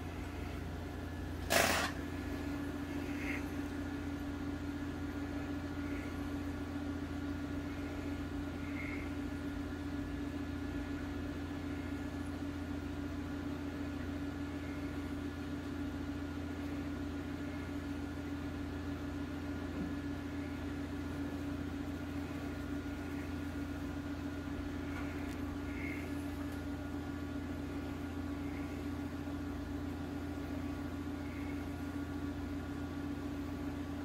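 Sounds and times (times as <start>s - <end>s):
mechanical hum of equipment: 0.0s - 34.0s.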